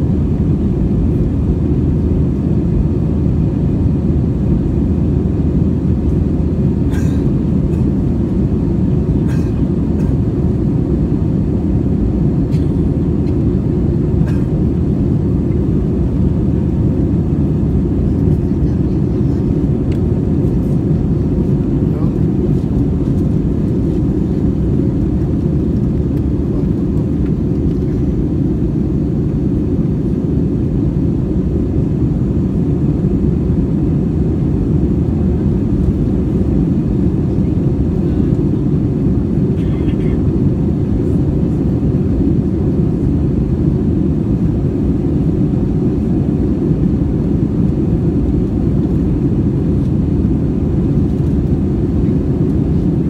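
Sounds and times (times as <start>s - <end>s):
roar of engines and airflow: 0.0s - 53.0s.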